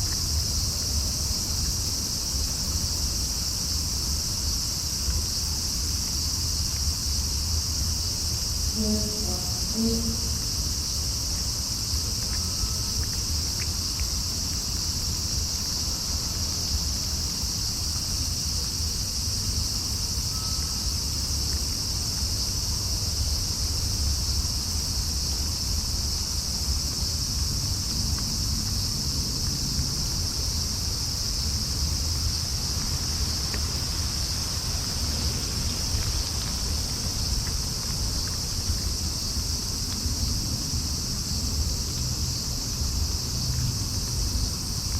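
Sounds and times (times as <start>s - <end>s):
crickets chirping: 0.0s - 44.9s
low rumble of distant traffic: 0.0s - 44.9s.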